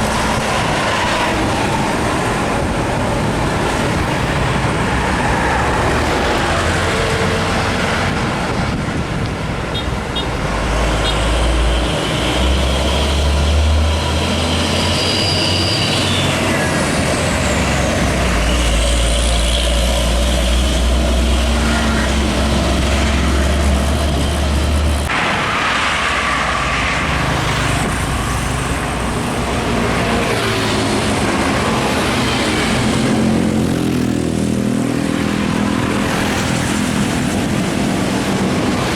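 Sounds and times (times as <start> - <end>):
traffic noise: 0.0 - 38.9.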